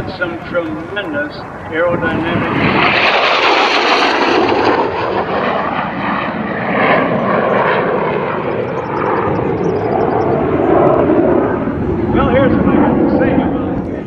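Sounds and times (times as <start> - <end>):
jet engine roaring: 0.0 - 14.0.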